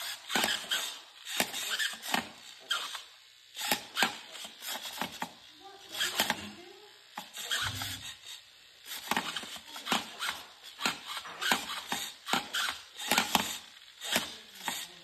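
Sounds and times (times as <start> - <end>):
servos whirring and clicking: 0.0 - 15.0.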